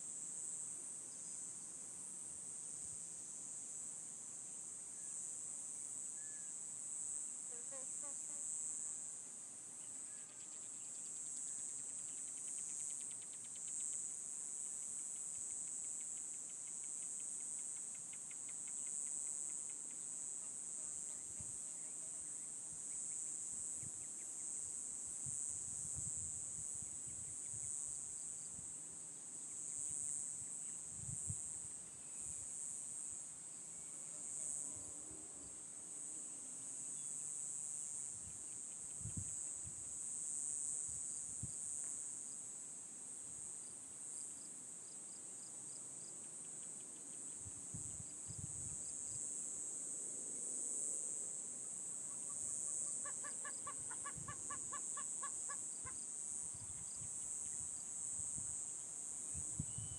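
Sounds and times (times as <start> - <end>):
high-pitched insect chorus: 0.2 - 42.5, 43.2 - 59.9.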